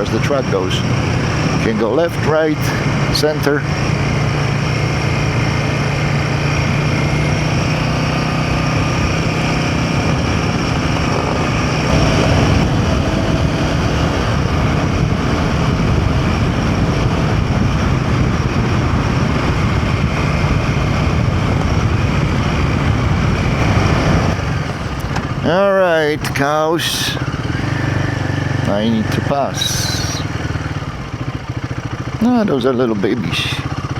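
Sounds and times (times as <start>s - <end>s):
motorcycle engine running: 0.0s - 33.9s
wind rush and road noise: 0.0s - 33.9s.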